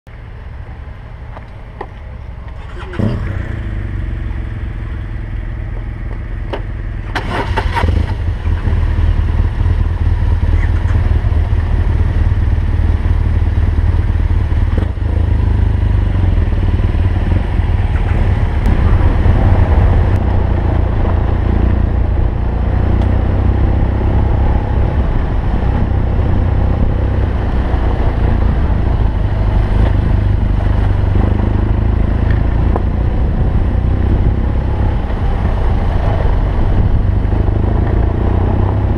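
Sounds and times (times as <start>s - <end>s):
motorcycle engine rumbling: 0.1s - 38.9s.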